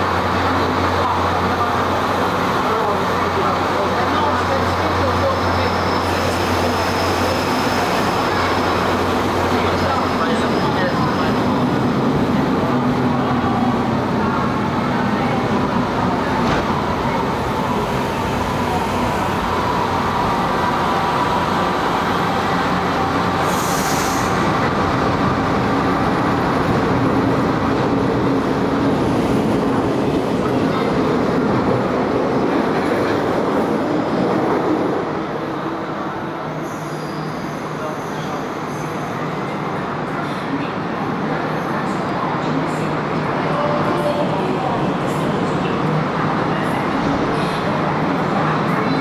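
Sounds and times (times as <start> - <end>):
train rail and wheel noise: 0.0 - 49.0.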